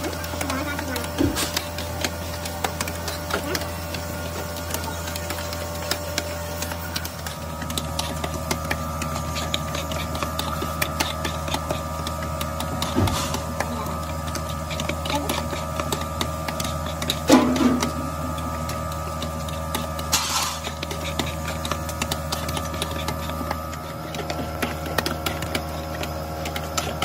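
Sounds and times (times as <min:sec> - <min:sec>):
workshop machine motor hum: 0:00.0 - 0:27.0.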